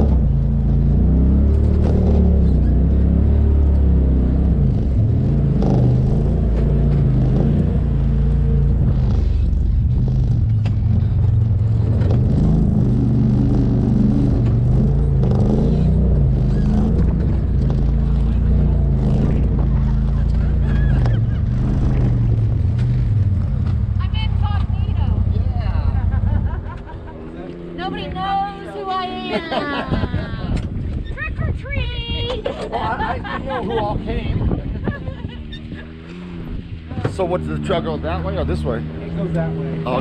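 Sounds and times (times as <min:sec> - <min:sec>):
off-road vehicle engine: 0:00.0 - 0:40.0.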